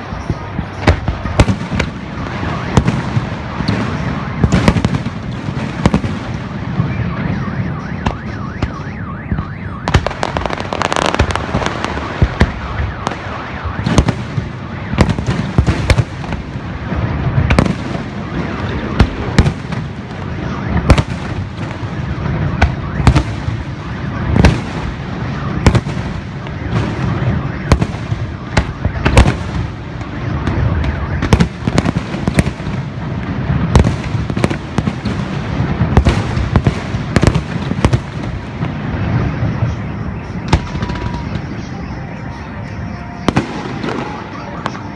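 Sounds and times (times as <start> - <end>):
fireworks bursting: 0.0 - 44.9.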